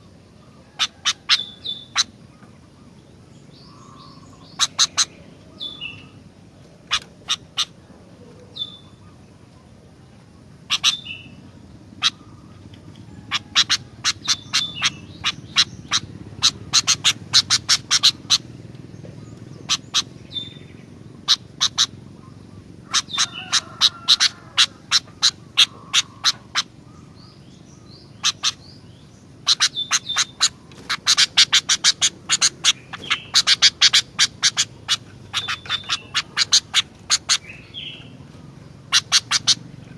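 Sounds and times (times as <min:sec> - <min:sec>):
bulbul harsh chattering calls: 0:00.0 - 0:39.9.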